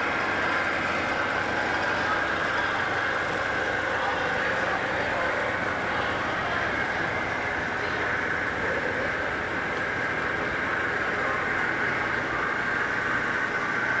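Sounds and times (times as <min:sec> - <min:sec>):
metalworking machinery whirring: 0:00.0 - 0:14.0.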